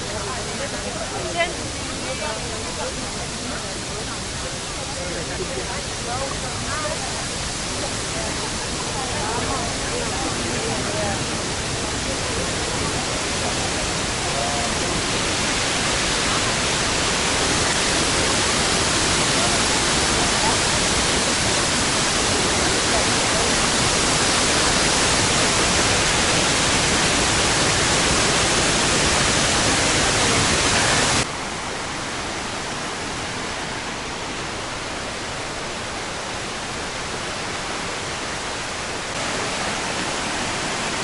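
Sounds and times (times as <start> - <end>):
waterfall roaring: 0.0 - 41.0.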